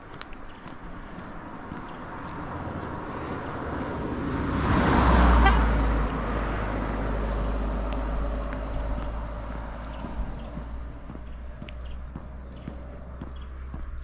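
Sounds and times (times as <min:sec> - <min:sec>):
low engine rumble: 0:00.0 - 0:14.0
car passing by: 0:01.0 - 0:13.8.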